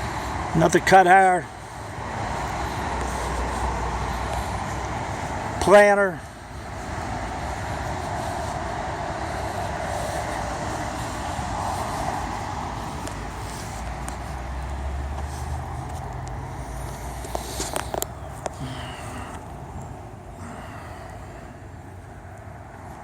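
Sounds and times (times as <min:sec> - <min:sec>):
low engine hum: 0:00.0 - 0:23.0
motor vehicle running: 0:00.0 - 0:23.0.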